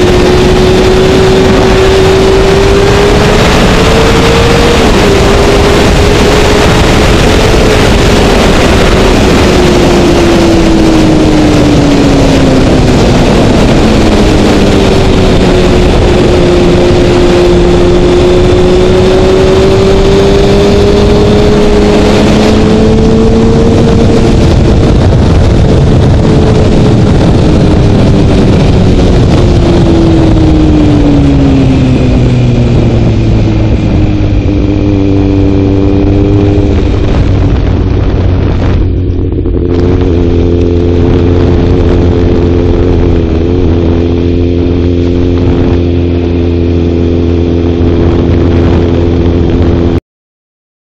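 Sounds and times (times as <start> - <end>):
motorcycle engine running: 0.0 - 50.0
wind rush on microphone: 0.0 - 50.0.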